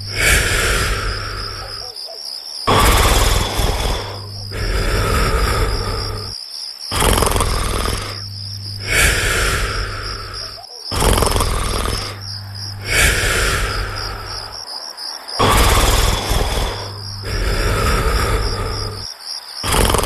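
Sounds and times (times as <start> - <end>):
cartoon snoring: 0.0 - 14.6, 15.4 - 20.0
crickets chirping: 0.0 - 20.0.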